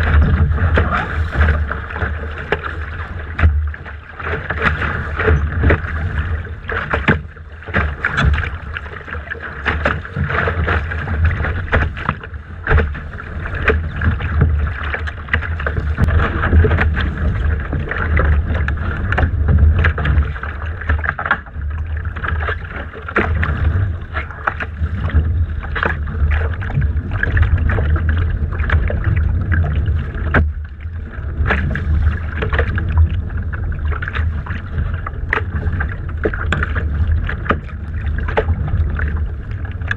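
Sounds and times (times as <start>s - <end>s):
water slapping against hull: 0.0s - 39.9s
wind rumble on microphone: 0.0s - 39.9s.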